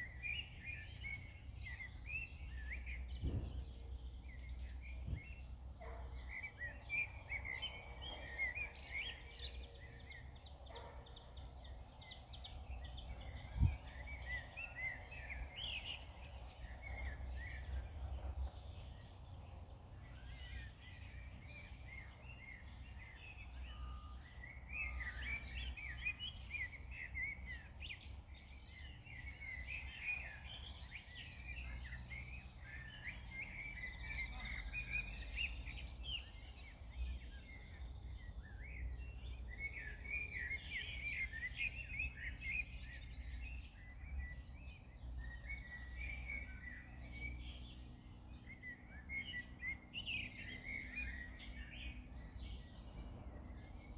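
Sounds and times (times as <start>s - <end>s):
songbirds chirping and singing: 0.0s - 53.9s
wind: 0.0s - 53.9s.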